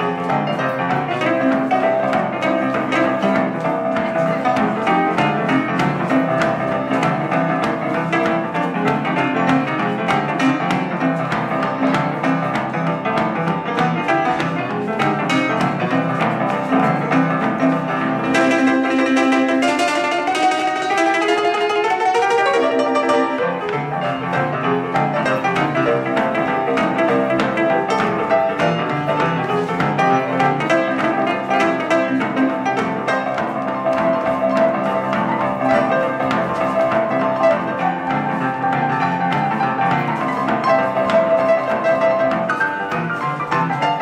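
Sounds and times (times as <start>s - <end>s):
boogie-woogie piano playing: 0.0s - 44.0s.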